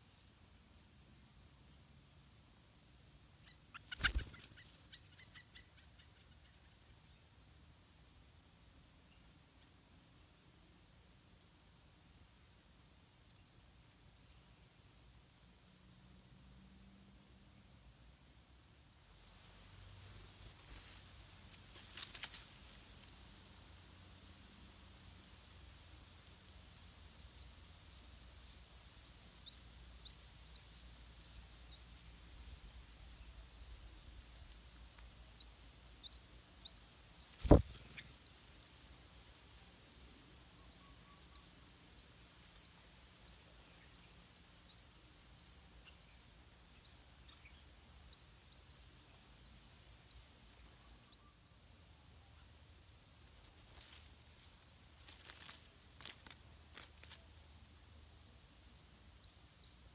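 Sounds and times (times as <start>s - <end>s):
nestlings peeping: 2.8s - 6.8s, 10.2s - 59.9s.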